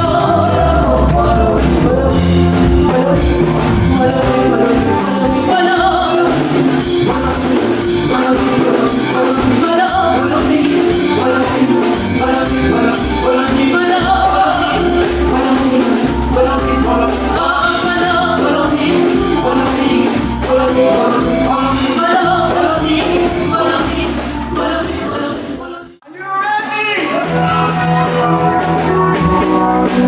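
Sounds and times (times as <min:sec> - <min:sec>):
worship music with singing and band: 0:00.0 - 0:30.0.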